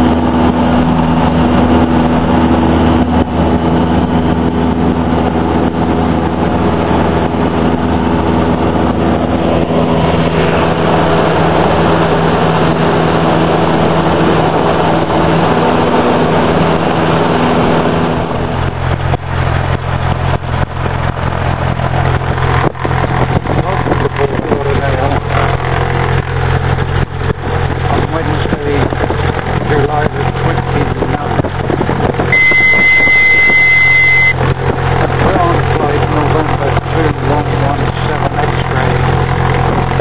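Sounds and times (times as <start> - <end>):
propeller plane engine drone: 0.0 - 40.0.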